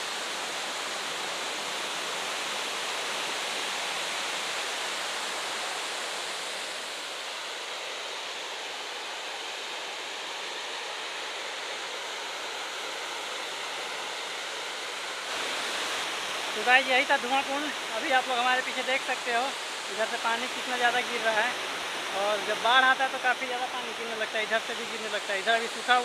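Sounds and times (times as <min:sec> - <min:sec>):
waterfall rushing over rock: 0:00.0 - 0:26.0.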